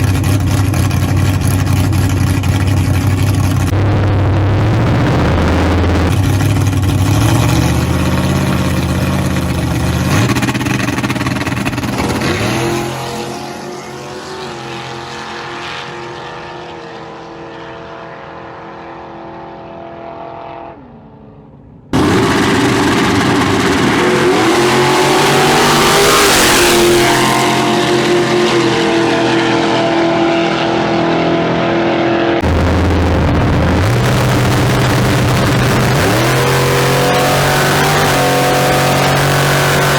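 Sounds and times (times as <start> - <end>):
race car engine running hard: 0.0 - 39.9
loud engine at high revs: 3.4 - 20.3, 22.0 - 39.9.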